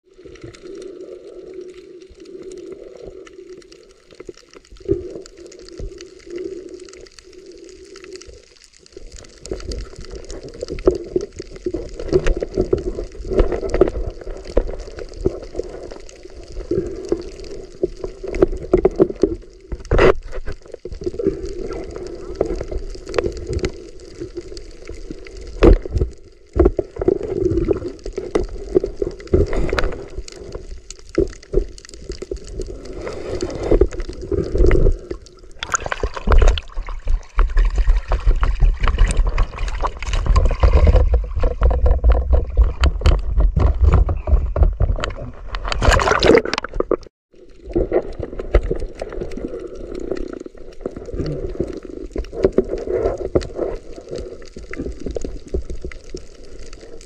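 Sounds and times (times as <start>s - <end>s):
underwater gurgling: 0.0s - 57.0s
water splashing: 0.0s - 57.0s.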